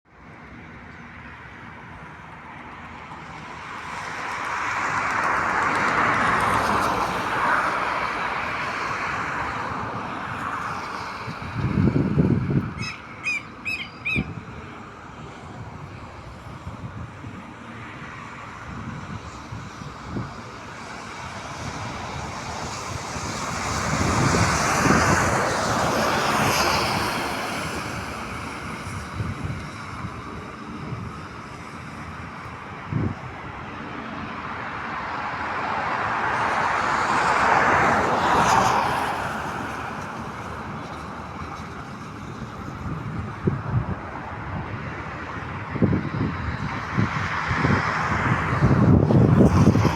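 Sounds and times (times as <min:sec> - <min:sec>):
outdoor background noise: 0:00.1 - 0:49.9
vehicles passing by: 0:00.1 - 0:49.9.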